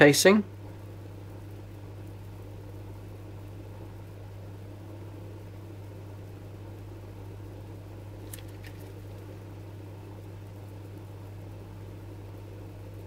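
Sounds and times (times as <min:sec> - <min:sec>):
low hum with faint hiss: 0:00.0 - 0:13.0.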